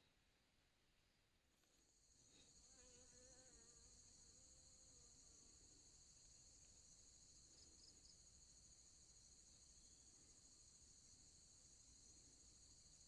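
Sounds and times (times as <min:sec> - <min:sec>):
insects trilling: 0:02.1 - 0:13.0.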